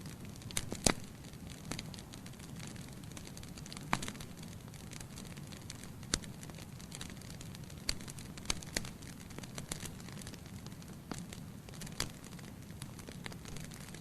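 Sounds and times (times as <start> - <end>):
burning logs popping: 0.0 - 14.0
wood fire crackling: 0.0 - 14.0.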